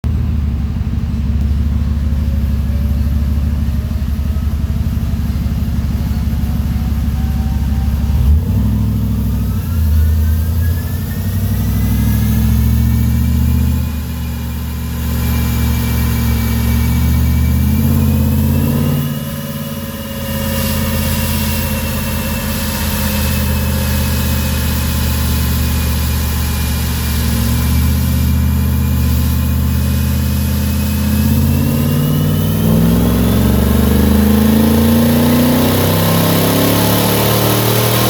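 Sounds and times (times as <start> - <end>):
deep truck exhaust note: 0.0 - 38.0
supercharger whine: 0.0 - 38.0.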